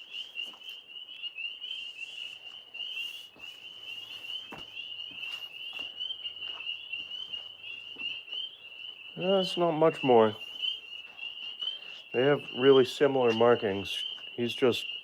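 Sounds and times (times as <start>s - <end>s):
frogs chorus trilling: 0.0s - 15.0s.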